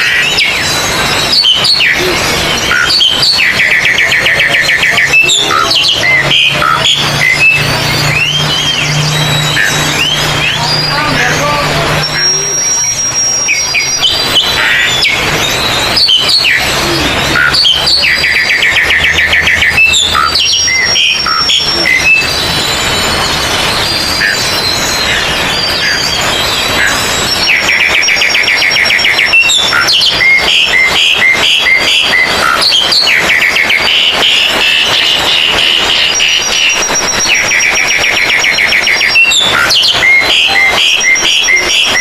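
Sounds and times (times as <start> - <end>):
fast rattling bird trill: 0.0 - 42.0
magpie-robins singing: 0.0 - 42.0.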